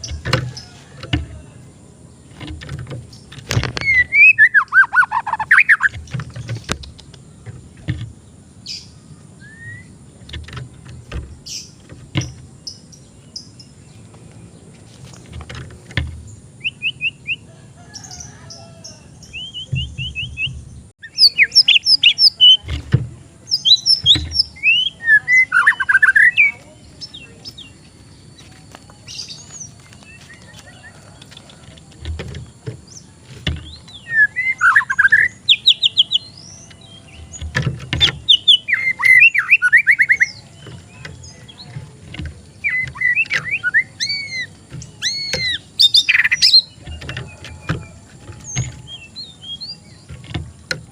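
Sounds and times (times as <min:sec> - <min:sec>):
songbird singing trills and whistles: 0:00.0 - 0:14.1, 0:16.6 - 0:50.9.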